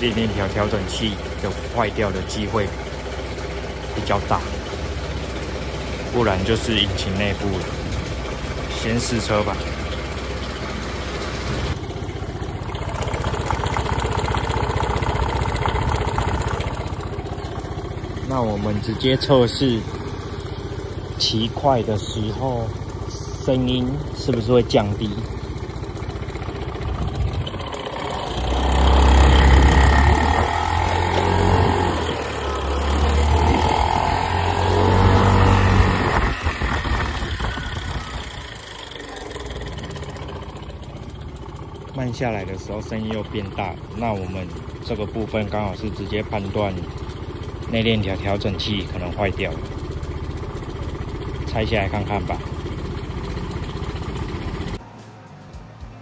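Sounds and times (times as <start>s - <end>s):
scooter engine idling loudly: 0.0s - 54.8s.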